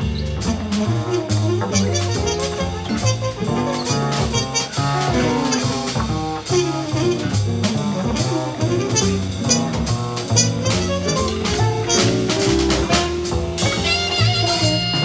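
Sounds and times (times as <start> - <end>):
drum hits: 0.0 - 15.0
jazz ensemble playing: 0.0 - 15.0
muted trumpet: 0.4 - 15.0.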